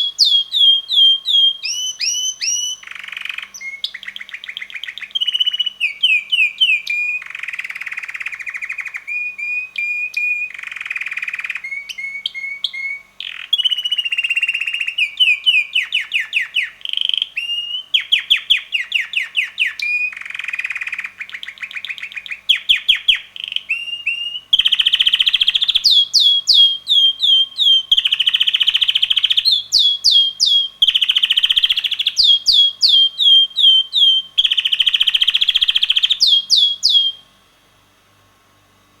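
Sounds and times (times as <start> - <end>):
canary singing trills and whistles: 0.0 - 37.4.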